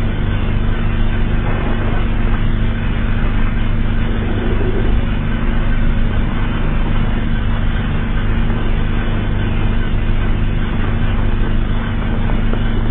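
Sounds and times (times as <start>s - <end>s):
low drone tones: 0.0s - 12.9s.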